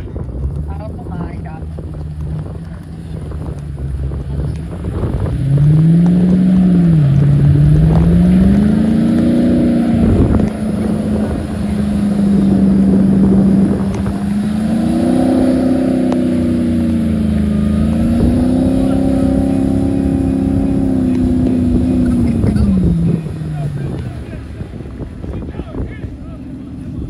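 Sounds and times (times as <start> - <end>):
vehicle engine pulling under load: 0.2 - 25.3.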